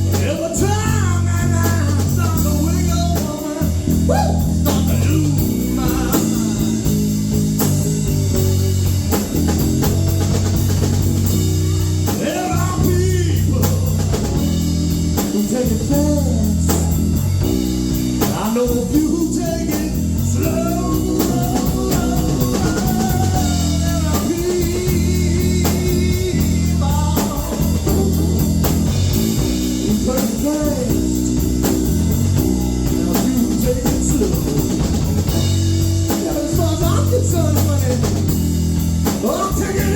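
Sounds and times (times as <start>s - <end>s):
blues-rock band playing live: 0.0s - 39.9s.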